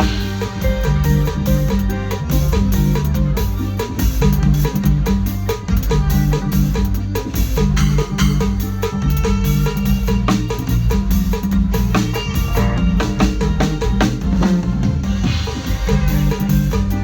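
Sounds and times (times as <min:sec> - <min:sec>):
band playing: 0:00.0 - 0:17.0
kick and snare drum beat: 0:00.0 - 0:17.0.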